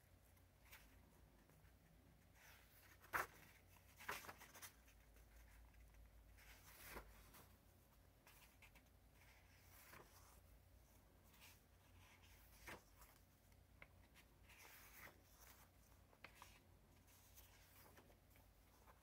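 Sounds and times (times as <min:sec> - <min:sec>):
paper pages rustling: 0:01.7 - 0:19.0.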